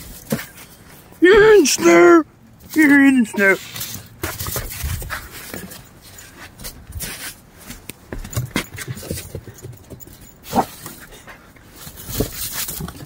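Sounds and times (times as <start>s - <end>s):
paws scrabbling on wooden deck: 0.0s - 1.8s, 2.6s - 13.0s.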